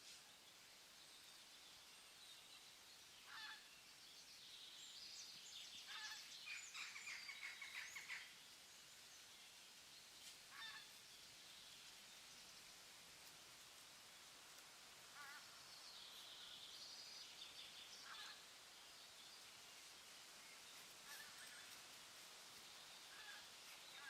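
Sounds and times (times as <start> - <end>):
steady soft hiss: 0.0 - 24.0.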